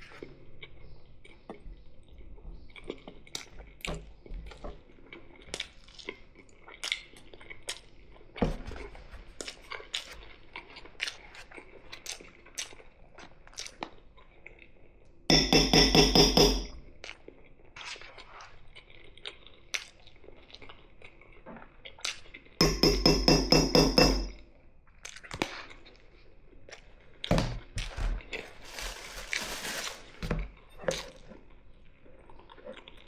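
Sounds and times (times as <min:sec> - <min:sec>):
chewing and crunching food: 0:00.0 - 0:15.3, 0:16.8 - 0:22.6, 0:24.5 - 0:33.0.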